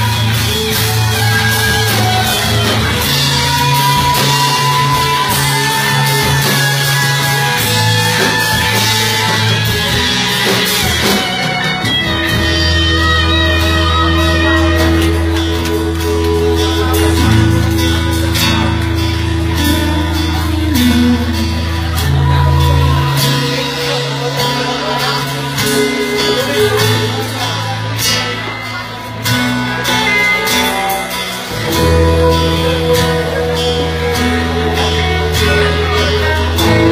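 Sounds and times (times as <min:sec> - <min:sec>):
bass notes: 0:00.0 - 0:36.9
drums and cymbals: 0:00.0 - 0:36.9
guitars strumming: 0:00.0 - 0:36.9.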